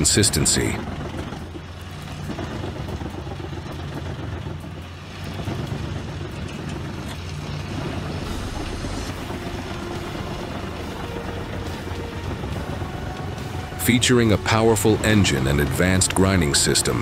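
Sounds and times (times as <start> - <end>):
wood chipper chipping logs: 0.0 - 17.0.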